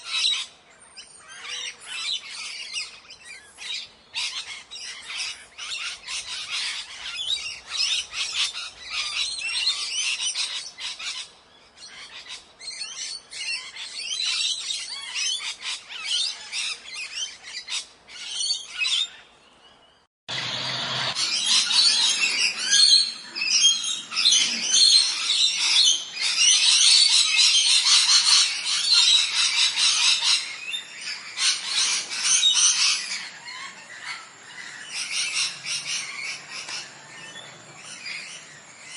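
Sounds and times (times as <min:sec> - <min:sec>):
parrots chattering and squawking: 0:01.2 - 0:19.2, 0:20.3 - 0:38.9.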